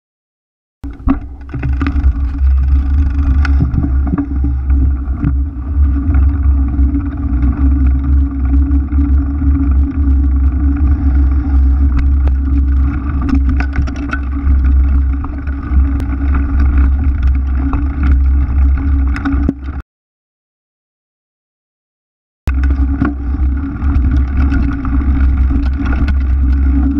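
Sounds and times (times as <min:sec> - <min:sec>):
bike frame clicks and rattles: 0:00.8 - 0:19.8, 0:22.5 - 0:26.9
bike tyre rumbling on ground: 0:00.8 - 0:19.8, 0:22.5 - 0:26.9.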